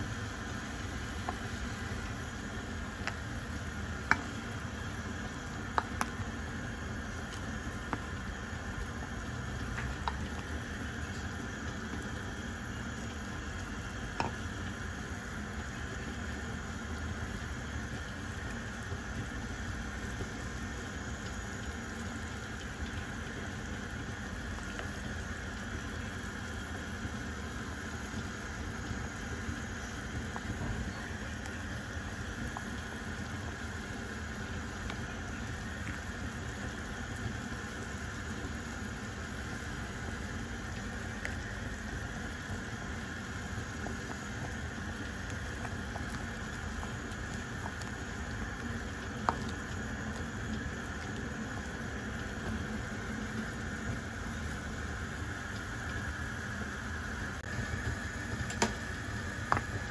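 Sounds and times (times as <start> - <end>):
soup bubbling in a pot: 0.0 - 59.9.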